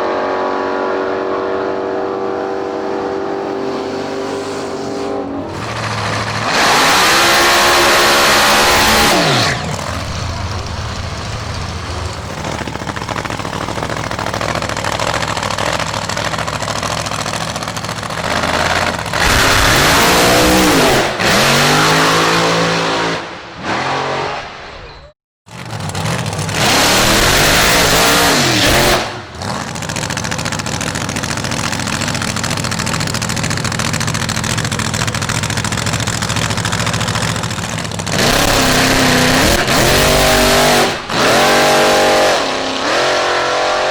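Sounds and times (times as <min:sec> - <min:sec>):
racing car engines at full throttle: 0:00.0 - 0:43.9.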